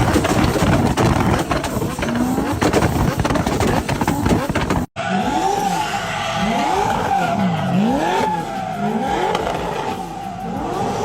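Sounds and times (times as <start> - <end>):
car engine revving: 0.0 - 11.0
tyres squealing: 0.0 - 11.0.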